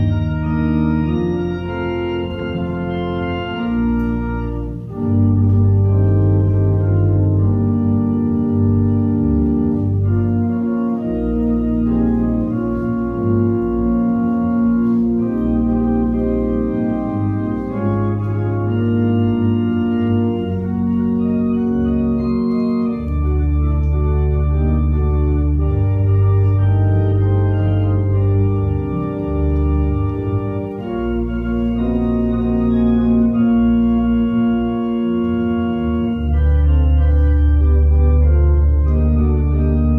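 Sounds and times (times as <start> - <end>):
organ playing sustained chords: 0.0 - 39.9.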